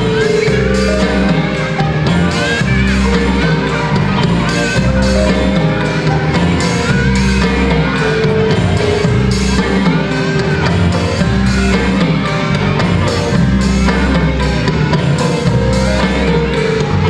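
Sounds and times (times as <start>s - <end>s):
held bass notes: 0.0s - 17.0s
music with drums and beat: 0.0s - 17.0s.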